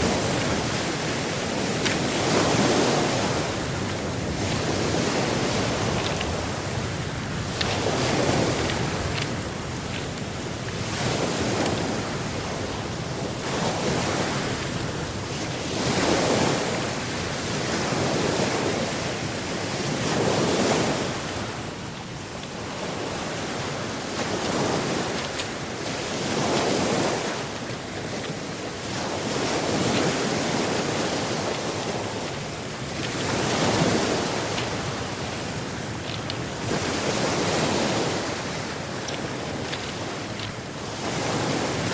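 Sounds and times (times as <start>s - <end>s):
ocean surf breaking on shore: 0.0s - 41.9s.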